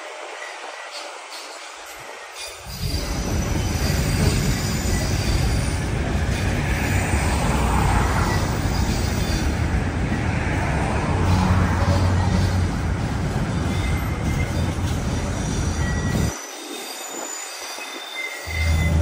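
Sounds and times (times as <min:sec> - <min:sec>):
train wheels rumbling on track: 0:00.0 - 0:19.0
high wheel squeal: 0:00.3 - 0:19.0.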